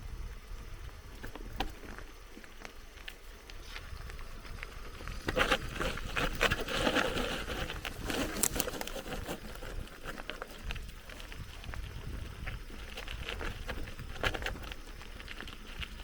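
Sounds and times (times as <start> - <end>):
tyres crunching on dirt and gravel: 0.9 - 16.0
bike clicking and rattling: 1.0 - 16.0.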